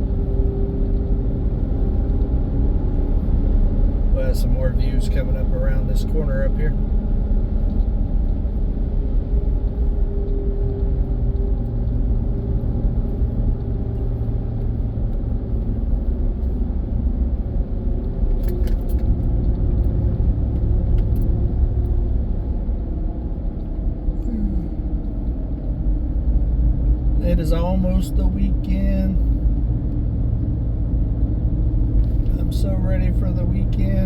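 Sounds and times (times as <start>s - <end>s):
truck engine and tire rumble: 0.0s - 34.0s.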